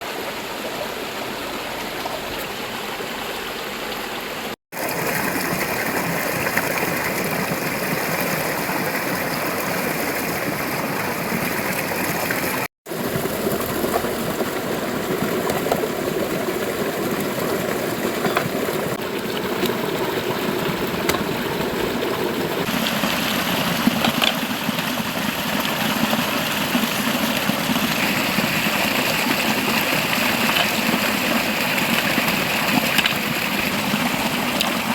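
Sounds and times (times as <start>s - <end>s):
river running over rocks: 0.0s - 34.9s.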